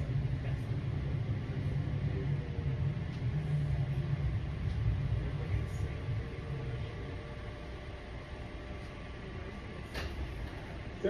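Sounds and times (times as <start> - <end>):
train rumble from inside: 0.0 - 9.4.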